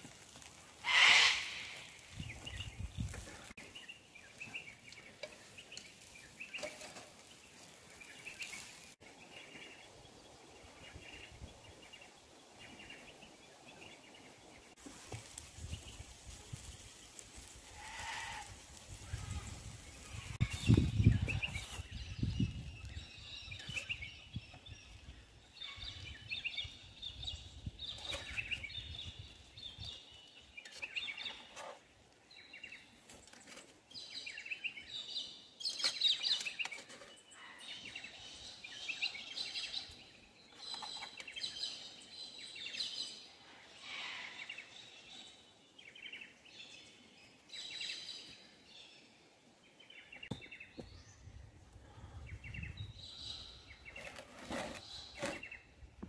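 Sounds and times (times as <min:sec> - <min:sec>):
wild birds calling and chirping: 0:00.4 - 0:14.8, 0:17.4 - 0:49.1.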